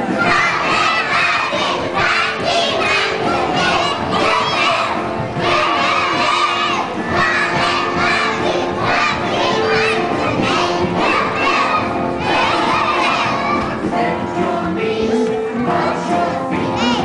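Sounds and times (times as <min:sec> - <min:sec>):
children shouting: 0:00.0 - 0:13.9
song playing: 0:00.0 - 0:17.0.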